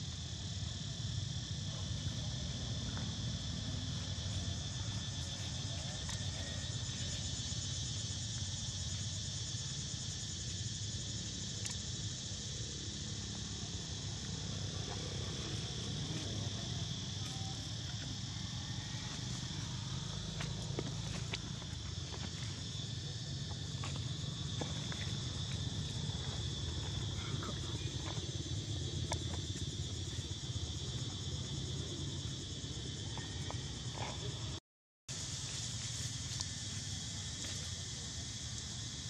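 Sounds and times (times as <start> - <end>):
insects buzzing: 0.0 - 39.0.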